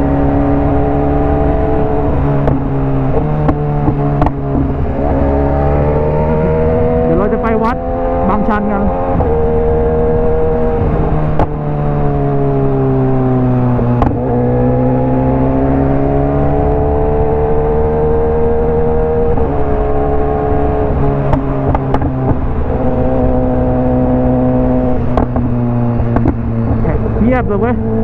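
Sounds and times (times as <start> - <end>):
motorcycle engine with loud exhaust: 0.0 - 28.0.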